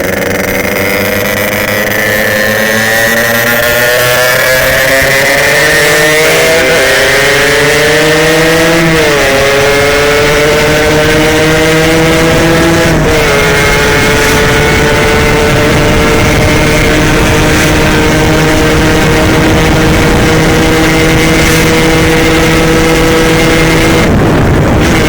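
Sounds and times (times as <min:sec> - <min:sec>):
motorcycle engine at full throttle: 0:00.0 - 0:25.0.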